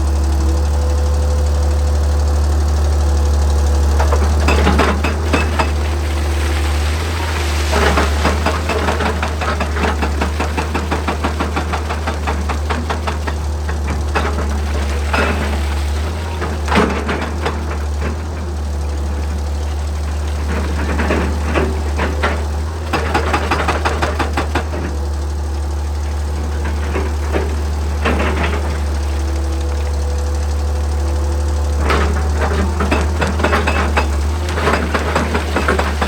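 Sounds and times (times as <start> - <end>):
excavator diesel engine running: 0.0 - 36.0
hydraulic breaker hammering rock: 3.8 - 30.7, 31.8 - 36.0.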